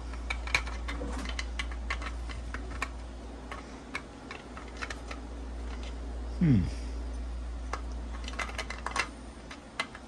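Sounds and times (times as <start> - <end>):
small plastic parts clicking: 0.0 - 6.0, 7.7 - 10.0
steady low hum: 0.0 - 10.0.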